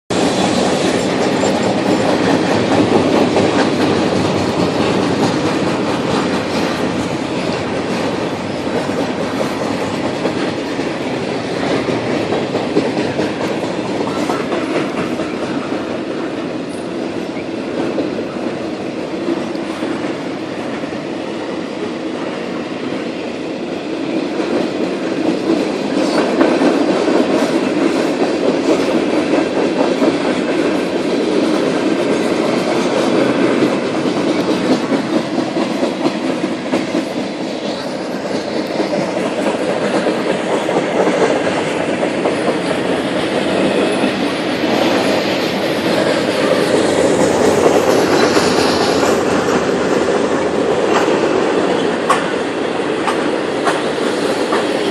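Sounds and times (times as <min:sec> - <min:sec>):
freight train wheels rumbling: 0:00.1 - 0:54.9
wheels clacking over rail joints: 0:00.1 - 0:54.9.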